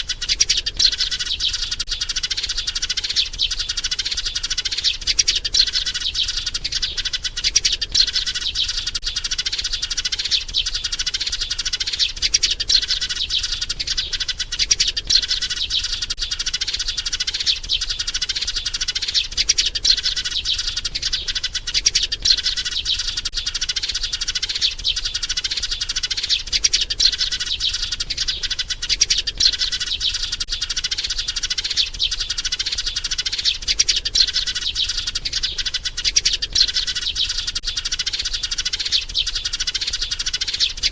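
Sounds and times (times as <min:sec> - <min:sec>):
sparrow chirping rapidly: 0:00.0 - 0:40.9.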